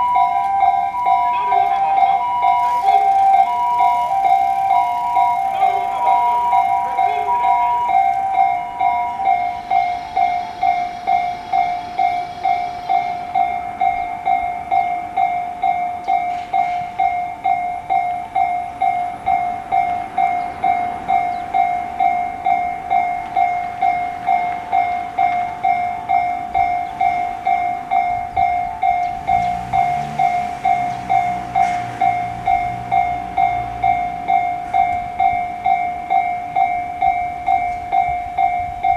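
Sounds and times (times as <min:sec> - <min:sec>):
level crossing warning bell: 0:00.0 - 0:38.9
train running: 0:00.0 - 0:38.9.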